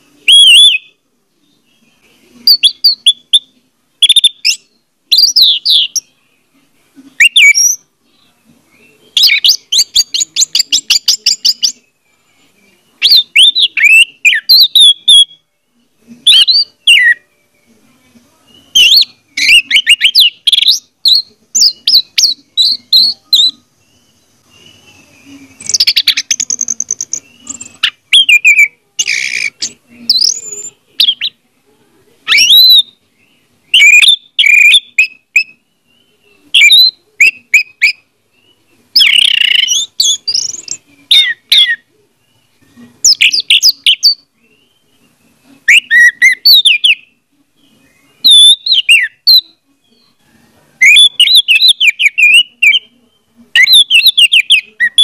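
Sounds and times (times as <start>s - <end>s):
thrush singing whistled notes: 0.0s - 6.4s, 13.0s - 17.6s, 18.5s - 31.4s, 32.3s - 50.2s, 50.8s - 52.9s, 53.6s - 55.0s.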